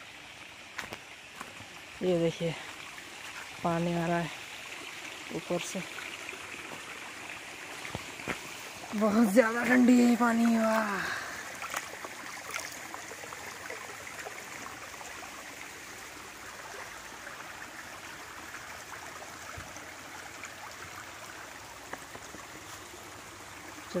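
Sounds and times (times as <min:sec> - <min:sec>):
faint water splashes: 0:00.0 - 0:24.0
small waterfall trickling over rocks: 0:00.0 - 0:24.0.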